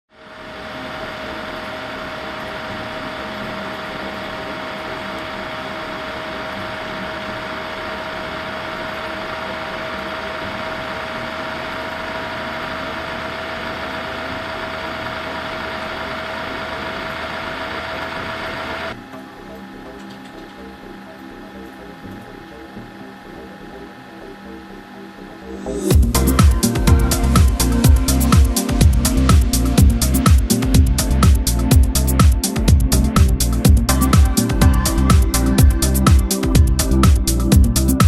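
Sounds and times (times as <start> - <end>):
laptop cooling fan whirring: 0.1 - 38.0.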